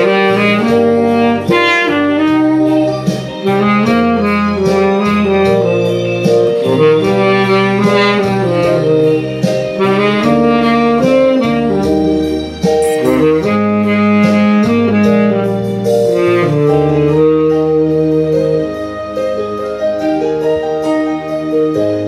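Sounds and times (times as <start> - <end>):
backing track bass notes: 0.0 - 22.0
tenor saxophone ballad melody: 0.0 - 22.0.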